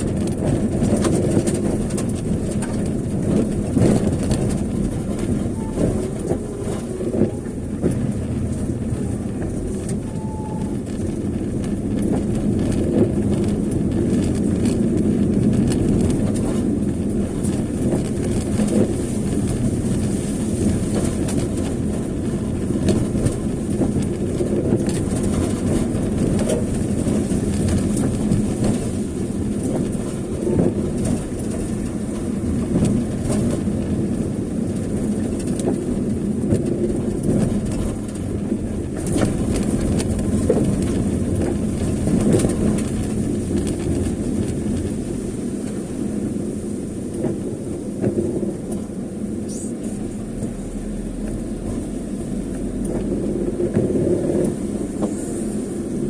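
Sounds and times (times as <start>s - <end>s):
vehicle rumble on rough road: 0.0s - 56.0s.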